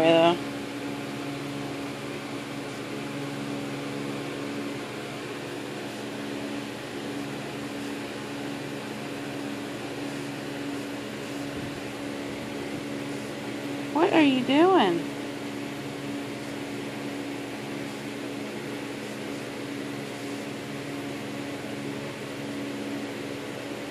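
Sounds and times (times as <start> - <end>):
mechanical hum: 0.0 - 23.9.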